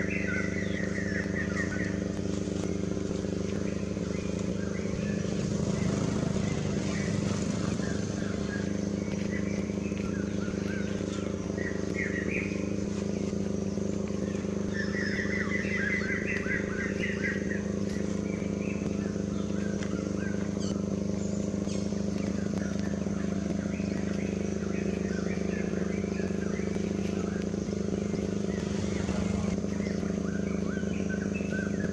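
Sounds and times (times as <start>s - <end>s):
engine idling: 0.0s - 31.9s
high chirping animal calls: 3.7s - 31.9s.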